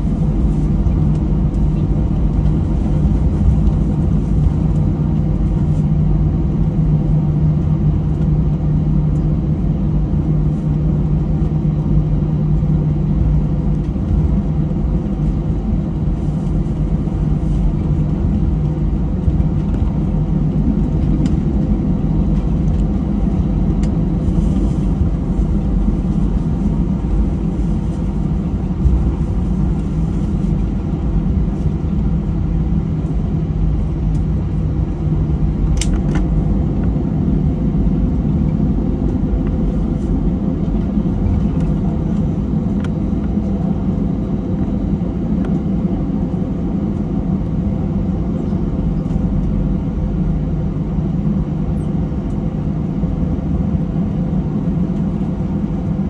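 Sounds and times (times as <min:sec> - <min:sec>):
jet engines idling rumble: 0:00.0 - 0:56.0
low hum: 0:00.0 - 0:56.0.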